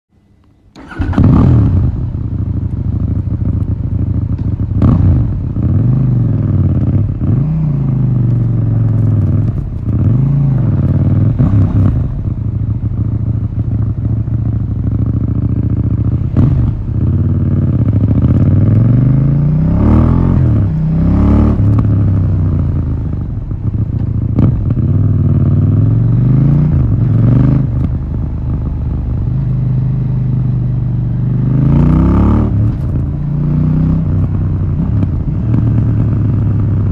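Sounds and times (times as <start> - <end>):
motorcycle engine revving: 0.8 - 36.9.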